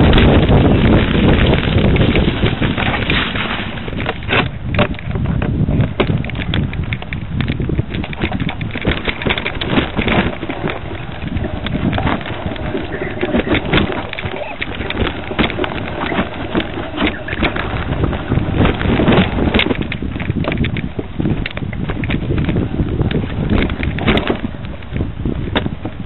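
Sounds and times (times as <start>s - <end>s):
bike rattling over bumps: 0.0s - 26.0s
tyres rumbling on dirt: 0.0s - 26.0s
wind on microphone: 0.0s - 26.0s.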